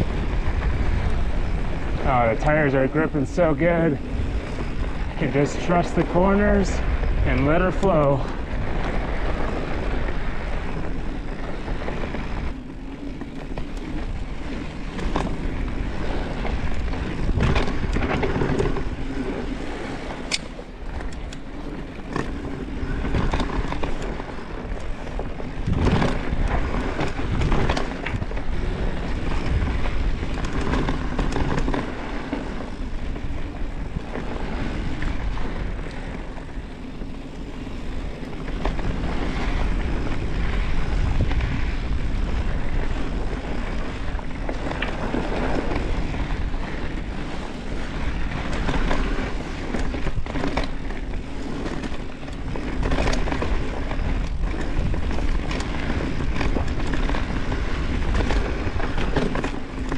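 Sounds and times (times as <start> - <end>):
bike knocks and rattles: 0.0 - 59.9
tyre and wind rush: 0.0 - 59.9.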